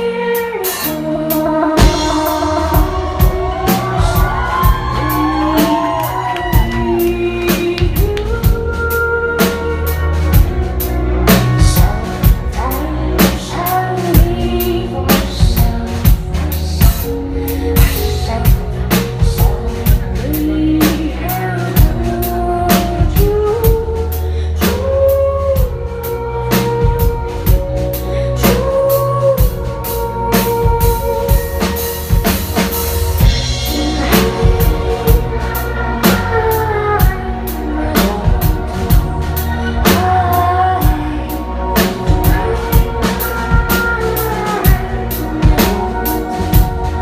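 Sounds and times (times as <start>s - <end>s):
drum kit beat: 0.0s - 47.0s
electro-rock band playing: 0.0s - 47.0s
heavy bass: 0.0s - 47.0s
sliding melodic lines: 0.5s - 47.0s.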